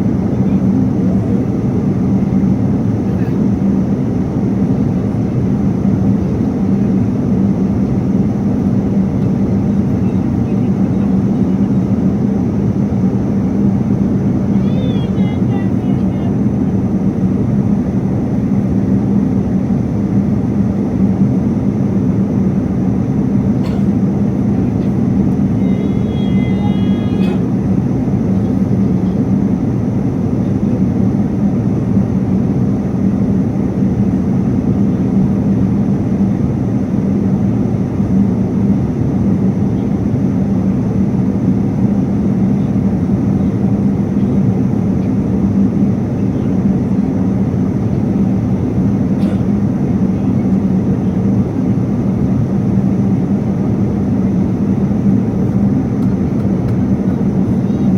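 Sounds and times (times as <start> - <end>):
airliner cabin roar: 0.0 - 57.9.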